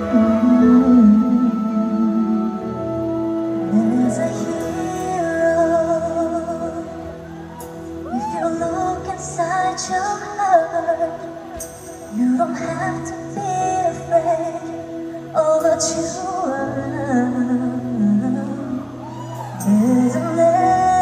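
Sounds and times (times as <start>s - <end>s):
sustained backing chords: 0.0s - 21.0s
woman singing into a microphone: 0.0s - 21.0s.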